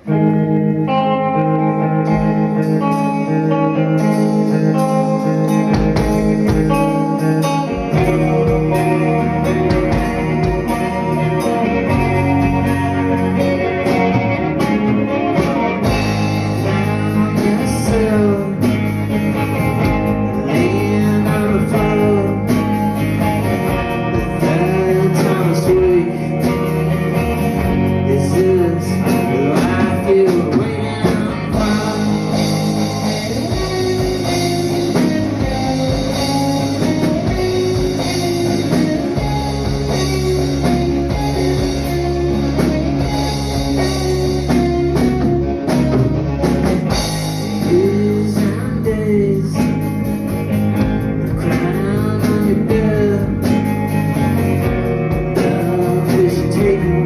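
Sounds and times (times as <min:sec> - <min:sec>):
guitar: 0:00.0 - 0:57.0
low bass notes: 0:00.0 - 0:57.0
person singing: 0:06.5 - 0:57.0.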